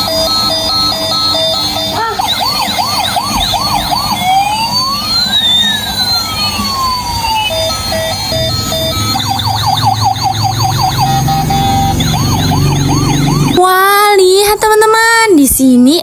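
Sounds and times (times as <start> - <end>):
toy siren beeping and wailing: 0.0 - 14.9.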